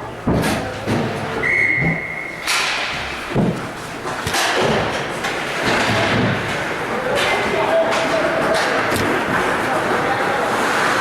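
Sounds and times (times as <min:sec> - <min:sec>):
puck and sticks slamming boards: 0:00.2 - 0:09.8.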